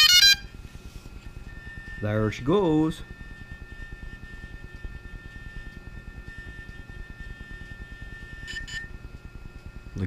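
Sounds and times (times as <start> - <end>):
gimbal motors high-pitched whine: 0.0 - 10.0.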